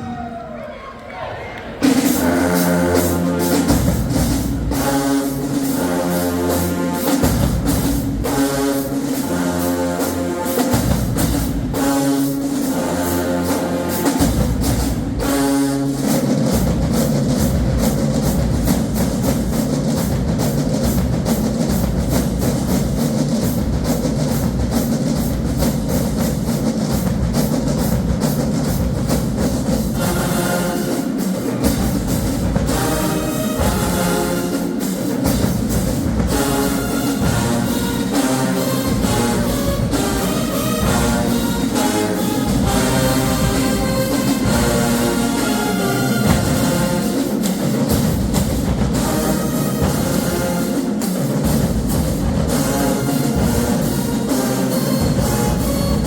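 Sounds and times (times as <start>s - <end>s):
brass chords: 1.8s - 56.0s
marching drums: 1.8s - 56.0s.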